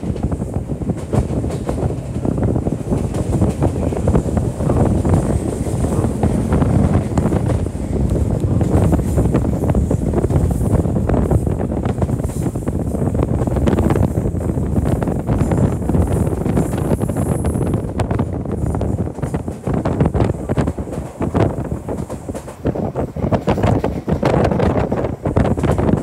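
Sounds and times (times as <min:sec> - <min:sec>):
train wheels rumbling on rail: 0:00.0 - 0:26.0
wind noise on microphone: 0:00.0 - 0:26.0.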